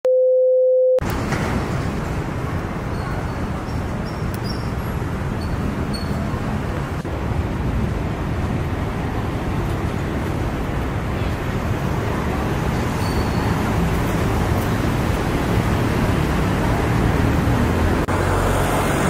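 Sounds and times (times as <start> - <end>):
road traffic: 1.0 - 19.0.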